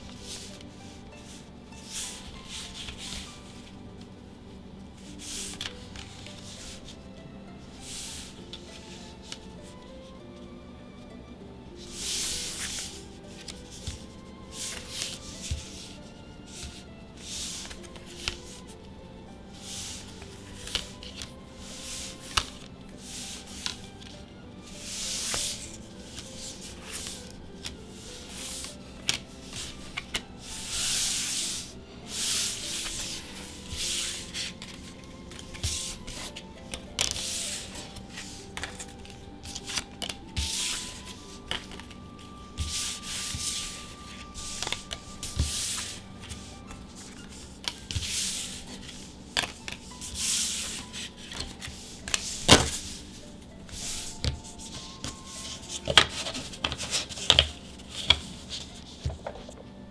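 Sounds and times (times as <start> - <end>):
cards rubbing and swishing: 0.0 - 10.2, 11.8 - 59.7.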